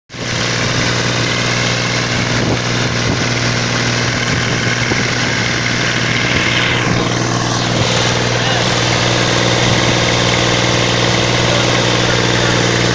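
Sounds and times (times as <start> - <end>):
tractor engine droning: 0.1 - 12.9.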